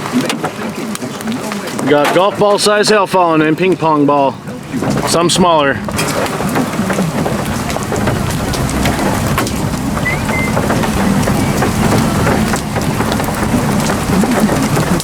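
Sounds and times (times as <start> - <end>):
hail pelting a vehicle: 0.0 - 15.0
heavy rain: 0.0 - 15.0.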